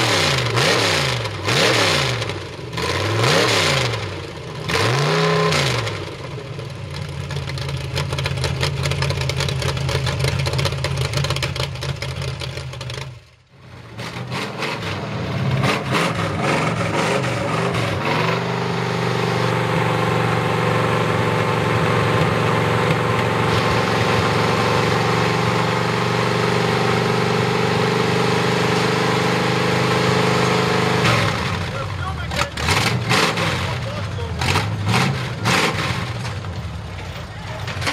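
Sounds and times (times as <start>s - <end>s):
engine running unevenly: 0.0s - 37.9s
truck engines idling loudly: 5.8s - 37.9s.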